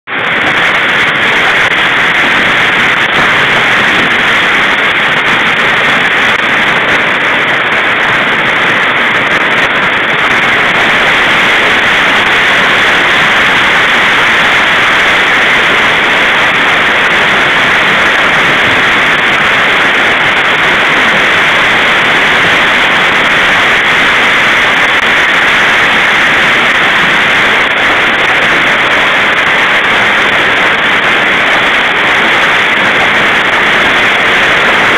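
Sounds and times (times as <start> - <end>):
heavy hail and rain: 0.1 - 34.9.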